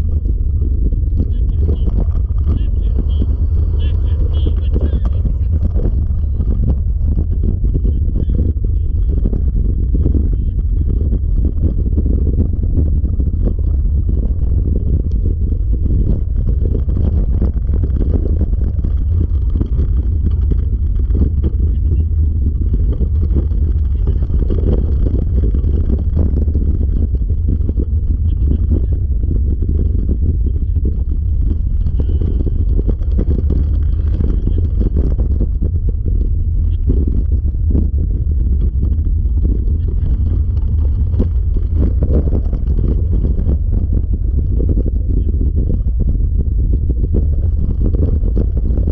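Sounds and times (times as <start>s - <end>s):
wheels rumbling on trail: 0.0s - 48.9s
wind buffeting microphone: 0.0s - 48.9s.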